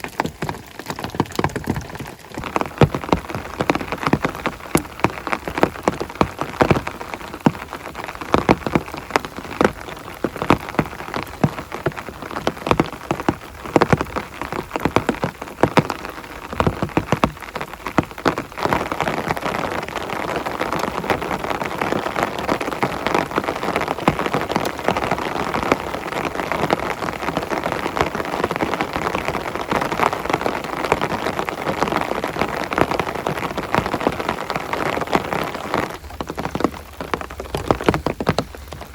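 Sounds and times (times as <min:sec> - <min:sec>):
heavy rain on a surface: 0:00.0 - 0:38.9.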